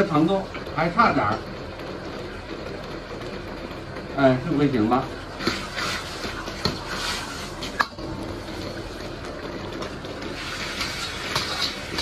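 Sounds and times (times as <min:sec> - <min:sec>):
sauce simmering and bubbling: 0:00.0 - 0:12.0.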